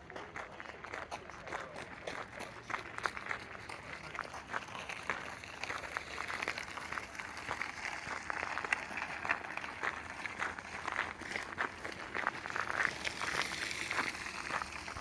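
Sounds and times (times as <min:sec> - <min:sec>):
footsteps on gravel: 0:00.0 - 0:15.0.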